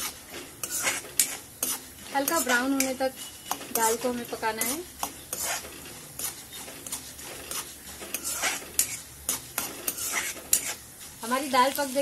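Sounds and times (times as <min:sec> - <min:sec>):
hot oil sizzling: 0:00.0 - 0:12.0
metal spoon scraping pan: 0:00.0 - 0:12.0.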